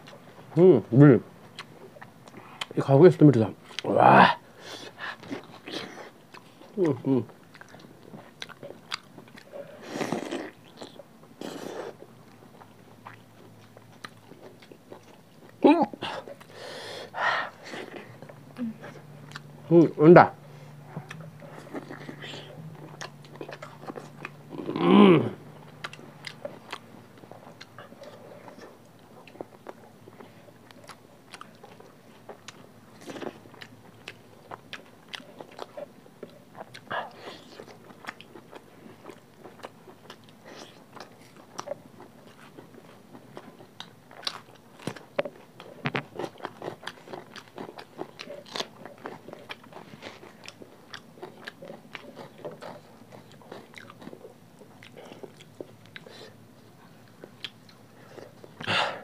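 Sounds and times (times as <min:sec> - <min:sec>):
wet chewing: 0:01.5 - 0:02.8, 0:04.7 - 0:16.7, 0:17.5 - 0:19.9, 0:20.6 - 0:59.0.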